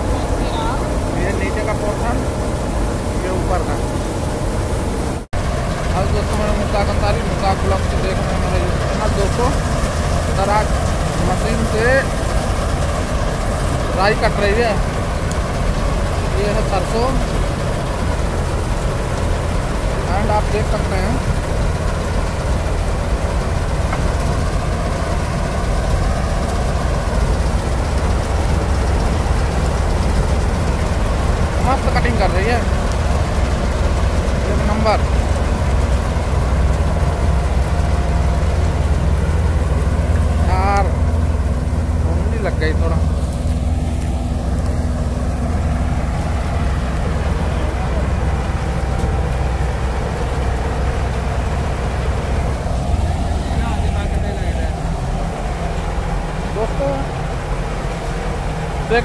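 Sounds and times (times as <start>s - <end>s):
combine harvester engine rumble: 0.0s - 59.0s
faint whine: 0.0s - 59.0s.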